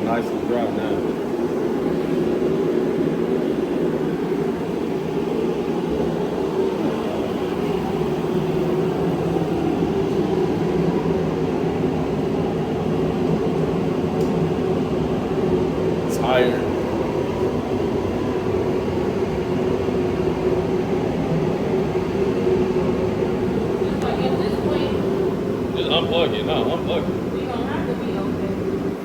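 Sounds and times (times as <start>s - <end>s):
space heater rumble: 0.0s - 29.0s.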